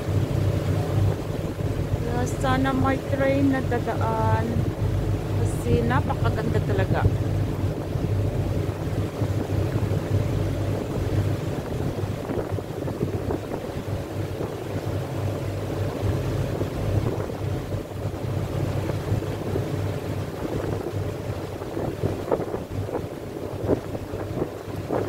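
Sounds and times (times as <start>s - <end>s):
boat engine drone: 0.0s - 25.0s
wind noise on microphone: 0.0s - 25.0s.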